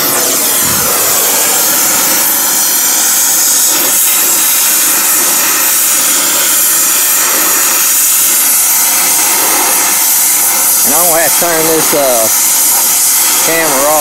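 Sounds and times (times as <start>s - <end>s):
gas torch hissing: 0.0s - 14.0s.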